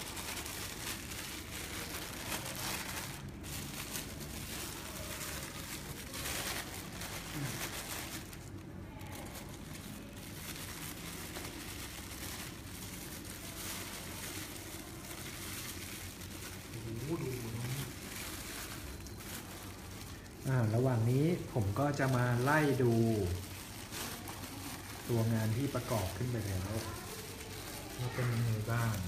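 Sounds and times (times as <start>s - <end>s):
plastic packaging crinkling: 0.0s - 29.0s.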